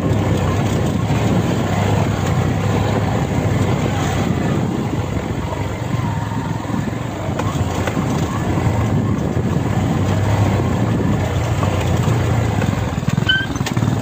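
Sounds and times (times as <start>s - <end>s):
constant rushing noise: 0.0s - 14.0s
engine running with low hum: 0.0s - 14.0s.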